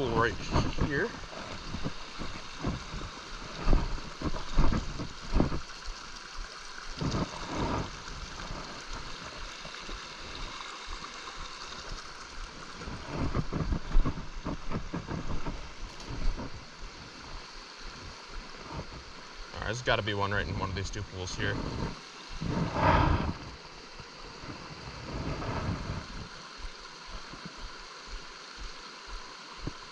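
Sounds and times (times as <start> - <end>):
brook running over rocks: 0.0 - 29.9.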